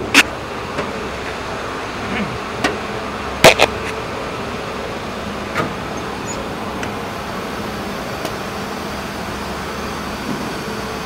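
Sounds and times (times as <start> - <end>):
factory machinery drone: 0.0 - 11.0.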